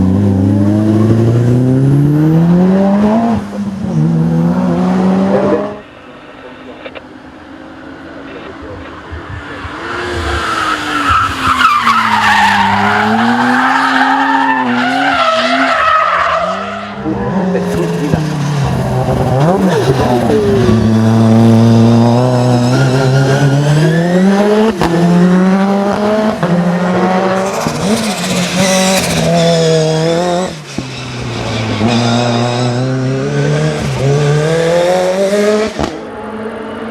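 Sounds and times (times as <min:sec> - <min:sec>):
race car engine at full throttle: 0:00.0 - 0:36.9.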